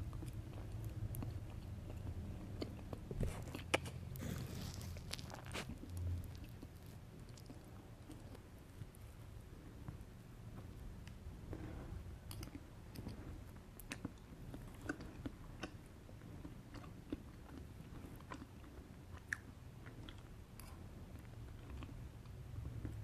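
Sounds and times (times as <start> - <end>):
low steady hum: 0.0 - 23.0
person chewing cake: 0.0 - 23.0.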